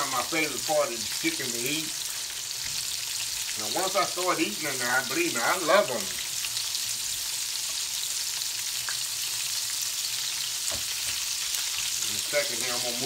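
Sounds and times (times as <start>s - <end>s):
chicken frying in grease: 0.0s - 13.0s.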